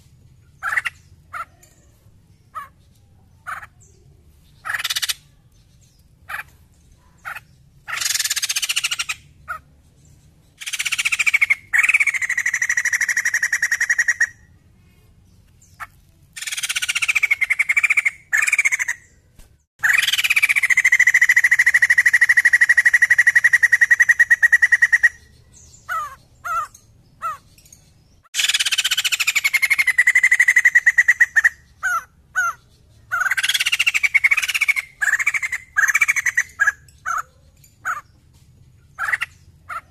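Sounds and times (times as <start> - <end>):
bird calling in rattling phrases: 0.0 - 14.7, 15.4 - 39.9.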